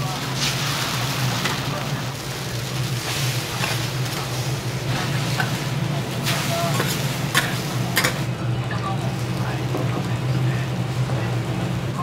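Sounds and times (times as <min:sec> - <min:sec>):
faint sizzle: 0:00.0 - 0:12.0
steady low hum: 0:00.0 - 0:12.0.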